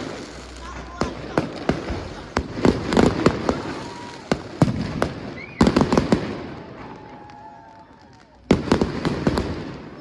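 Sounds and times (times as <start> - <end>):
fireworks rumble: 0.0 - 10.0.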